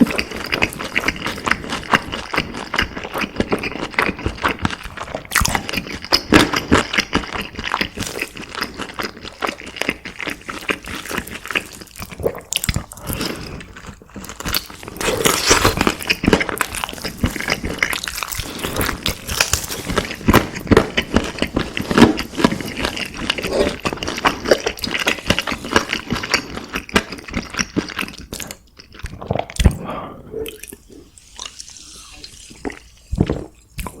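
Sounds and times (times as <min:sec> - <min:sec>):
person chewing wetly: 0:00.0 - 0:34.0.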